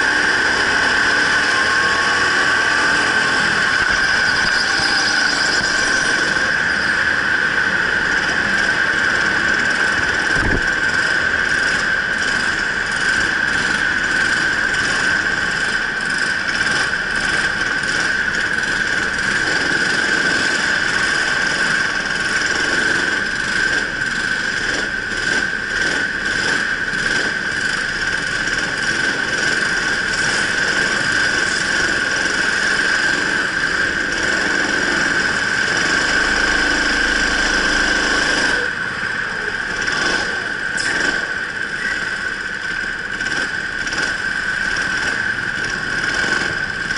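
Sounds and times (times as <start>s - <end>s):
go-kart engine whining: 0.0s - 46.9s.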